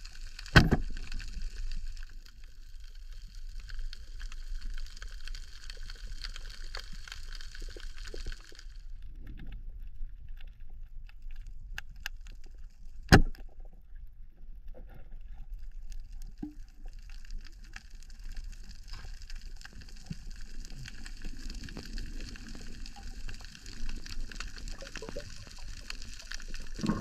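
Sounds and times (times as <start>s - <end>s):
small underwater clicks: 0.0s - 27.0s.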